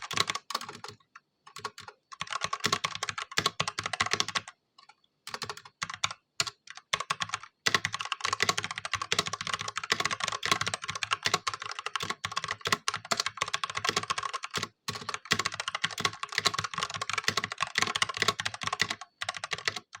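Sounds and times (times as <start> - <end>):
fast typing on mechanical keyboard: 0.0 - 4.6, 5.3 - 20.0.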